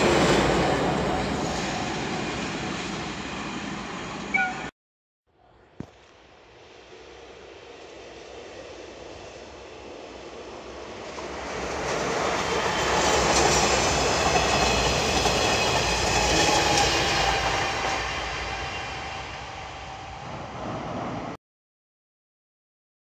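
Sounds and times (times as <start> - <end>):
diesel train passing: 0.0 - 4.7, 6.1 - 21.4.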